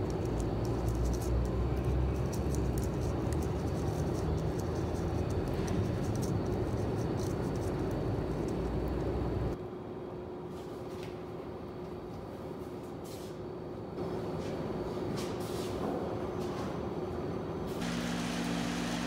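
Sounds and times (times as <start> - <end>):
faint constant hum: 0.0 - 17.8.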